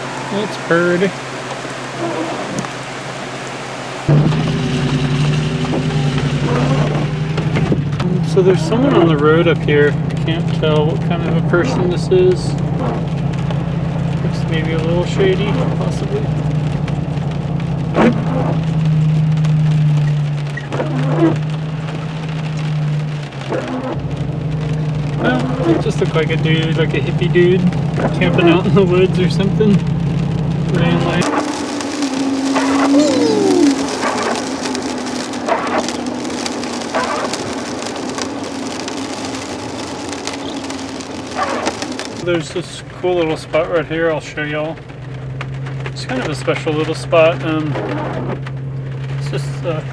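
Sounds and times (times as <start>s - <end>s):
vehicle engine hum: 0.0s - 43.0s
rain on a vehicle: 0.0s - 49.9s.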